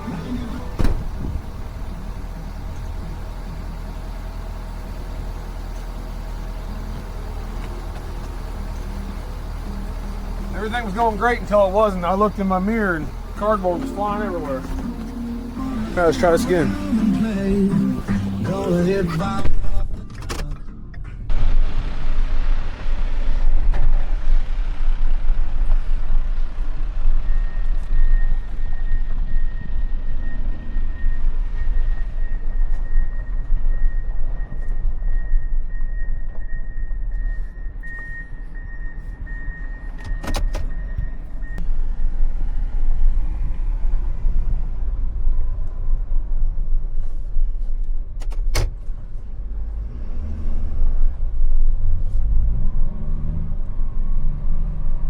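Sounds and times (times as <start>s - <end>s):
wind and road noise: 0.0s - 17.0s, 21.2s - 55.0s
truck engine humming: 0.0s - 44.8s.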